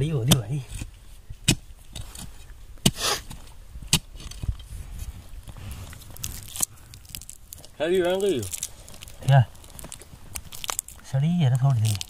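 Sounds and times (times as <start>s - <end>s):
loose earth scraping: 0.0s - 12.0s.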